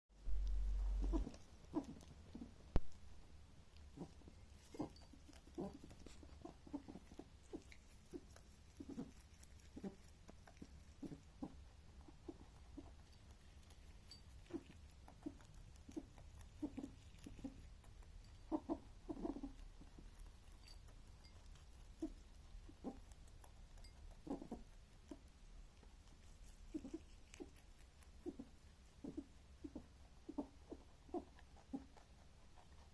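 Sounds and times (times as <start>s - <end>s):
rabbit chewing noises: 0.2s - 32.9s.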